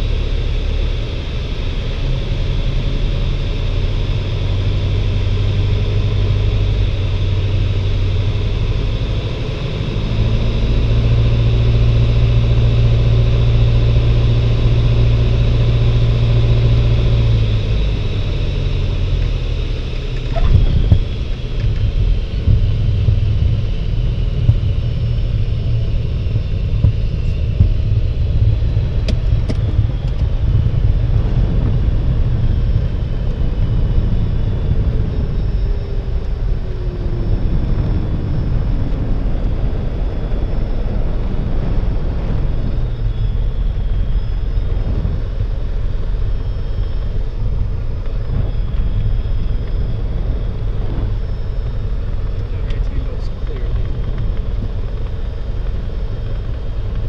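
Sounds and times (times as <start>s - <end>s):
piston engine and propeller rumble: 0.0s - 57.0s.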